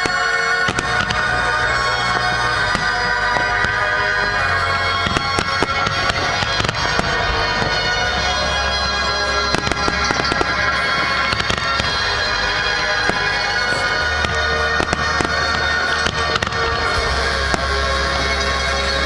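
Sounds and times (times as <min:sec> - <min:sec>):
fireworks bangs and crackles: 0:00.0 - 0:19.0
loud music with held notes: 0:00.0 - 0:19.0.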